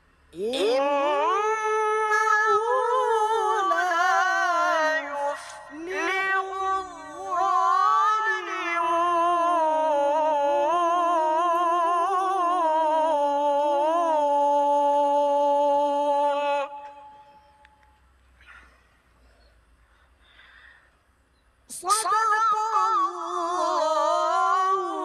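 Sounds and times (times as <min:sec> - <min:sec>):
man chanting melodically: 0:00.4 - 0:17.6, 0:21.7 - 0:25.0.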